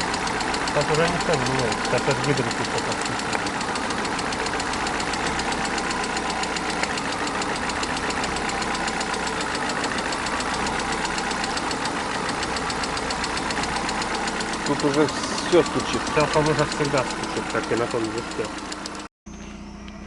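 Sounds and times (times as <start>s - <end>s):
engine idling with knock: 0.0s - 19.6s.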